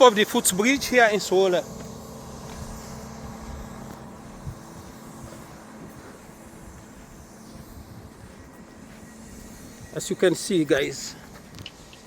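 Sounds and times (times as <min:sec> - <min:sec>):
distant traffic rumble: 0:00.0 - 0:12.0
faint steady hum: 0:00.0 - 0:12.0.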